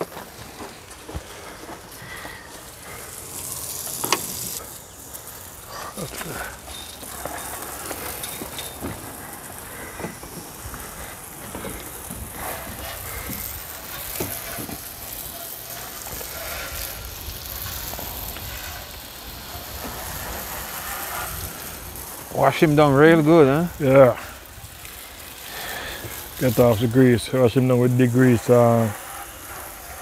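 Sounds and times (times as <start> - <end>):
hose water spattering on metal: 2.6 - 30.0.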